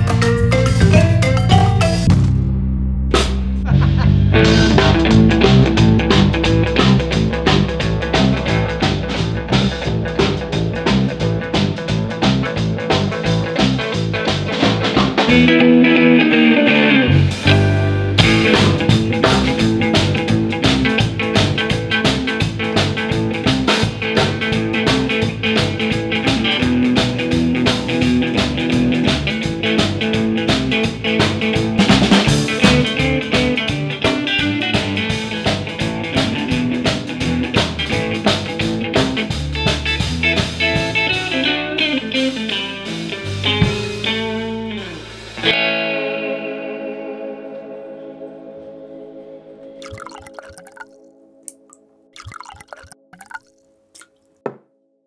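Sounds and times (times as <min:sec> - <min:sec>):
electric bass: 0:00.0 - 0:45.6
drums: 0:00.0 - 0:45.7
electric guitar: 0:03.6 - 0:49.0.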